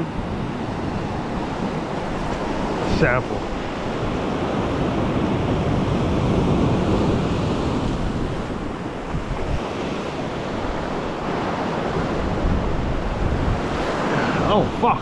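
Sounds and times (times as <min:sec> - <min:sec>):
waves washing over rocks: 0:00.0 - 0:15.0
wind rumbling on microphone: 0:00.0 - 0:15.0.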